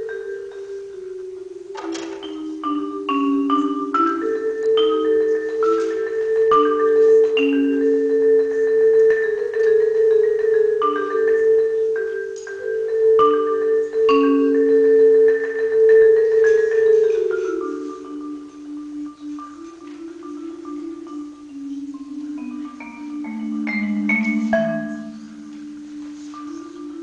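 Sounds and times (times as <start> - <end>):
marimba rolls and notes: 0.0 - 27.0.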